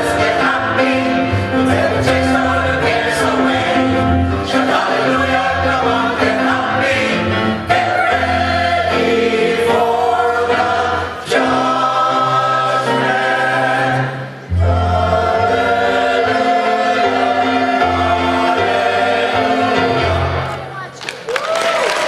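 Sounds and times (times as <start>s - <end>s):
mixed choir singing: 0.0s - 20.6s.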